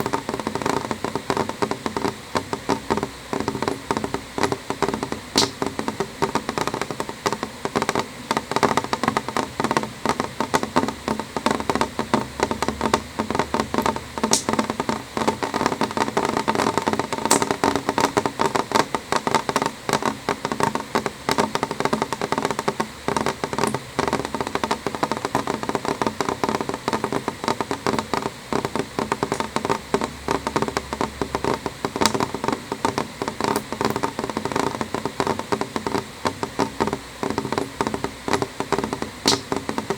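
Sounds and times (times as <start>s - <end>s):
rain on a window: 0.0s - 39.9s
sharp raindrop taps: 0.0s - 39.9s.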